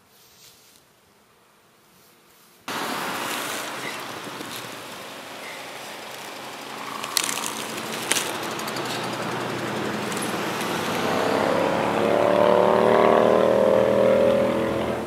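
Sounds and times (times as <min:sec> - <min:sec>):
vehicle engine passing: 0:02.7 - 0:15.0.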